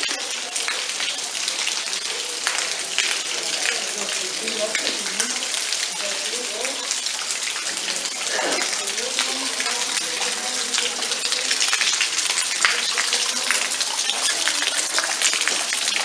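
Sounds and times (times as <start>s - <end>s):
rain falling: 0.0s - 16.0s
water dripping and splashing: 0.0s - 16.0s.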